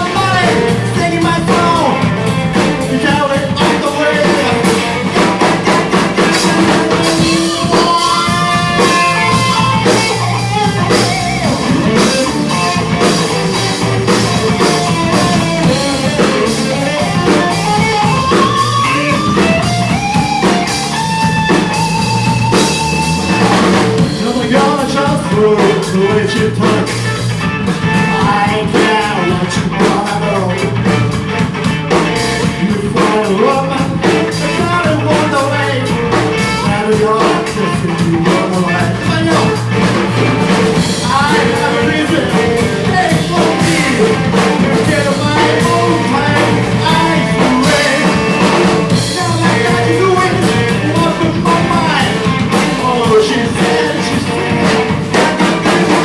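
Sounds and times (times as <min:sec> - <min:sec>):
bass guitar: 0:00.0 - 0:56.0
drum kit: 0:00.0 - 0:56.0
electric guitar lead melody: 0:00.0 - 0:56.0.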